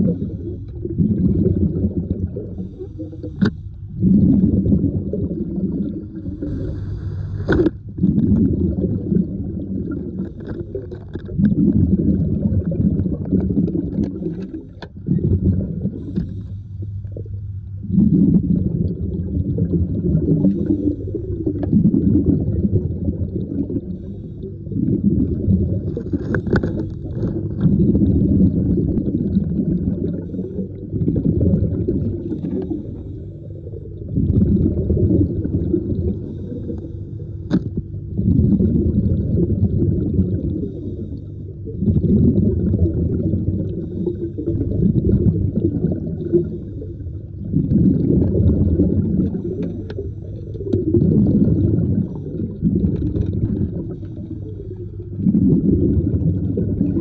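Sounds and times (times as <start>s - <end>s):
underwater rumbling and gurgling: 0.0s - 57.0s.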